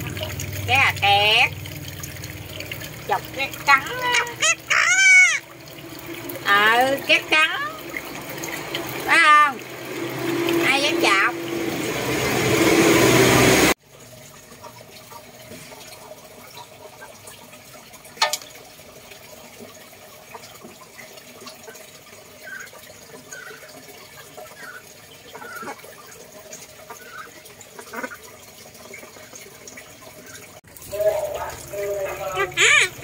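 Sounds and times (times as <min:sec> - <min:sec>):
steady wash of water: 0:00.0 - 0:33.0
water running into pond: 0:00.0 - 0:33.0.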